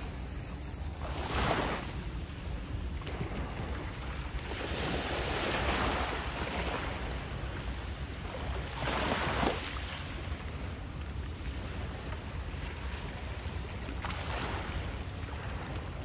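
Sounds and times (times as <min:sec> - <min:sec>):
small waves washing on shore: 0:00.0 - 0:16.0.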